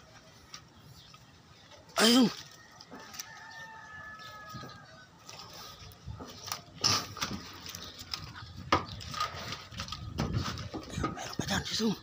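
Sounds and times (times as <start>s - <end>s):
leaves and twigs rustling: 0.0s - 12.0s
twigs clicking and snapping: 0.5s - 11.2s.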